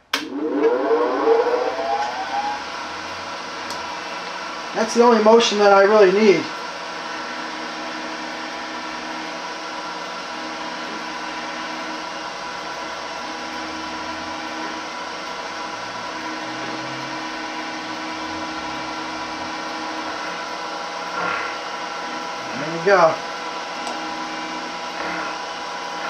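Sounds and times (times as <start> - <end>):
milling machine whine: 0.0 - 26.0.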